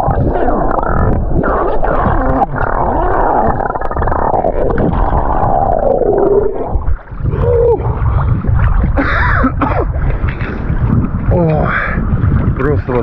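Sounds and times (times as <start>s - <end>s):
gurgling bubbles: 0.0s - 13.0s
muffled underwater rumble: 0.0s - 13.0s.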